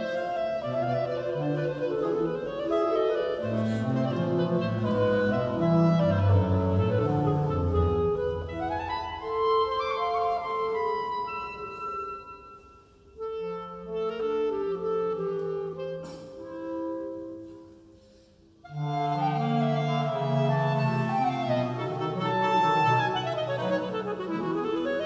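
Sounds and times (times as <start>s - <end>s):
clarinet ensemble playing: 0.0s - 25.0s.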